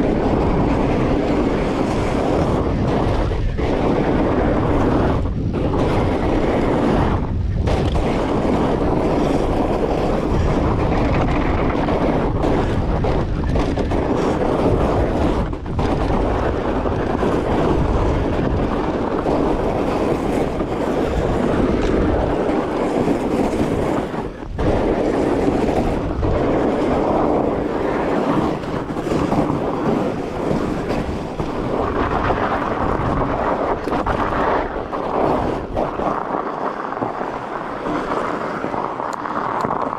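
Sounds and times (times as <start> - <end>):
bike rumbling down trail: 0.0 - 39.9
wind buffeting microphone: 0.0 - 39.9.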